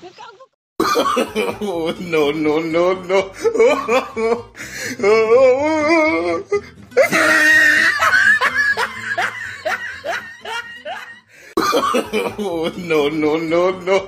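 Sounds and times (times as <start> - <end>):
person laughing loudly: 0.8 - 14.0.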